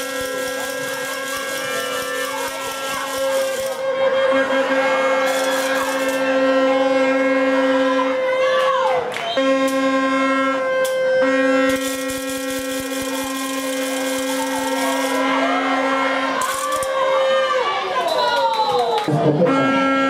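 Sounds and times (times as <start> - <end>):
lower horn blasts: 0.0 - 8.8, 9.4 - 16.9, 19.4 - 20.0
steady horn tone: 0.0 - 17.3, 19.2 - 20.0.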